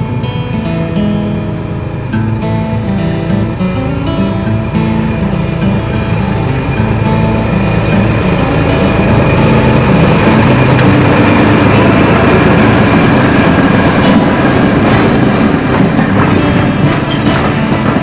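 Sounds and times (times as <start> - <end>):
diesel engine droning: 0.0 - 18.0
train wheels clicking over rail joints: 2.2 - 18.0.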